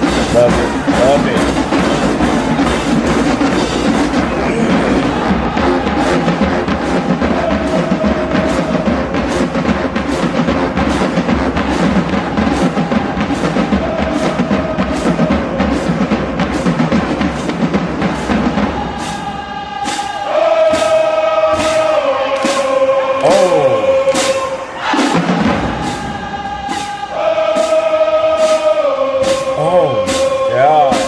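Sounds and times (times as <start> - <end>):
brass chords: 0.0 - 31.0
drums beating: 0.0 - 31.0
marching band playing: 0.0 - 31.0.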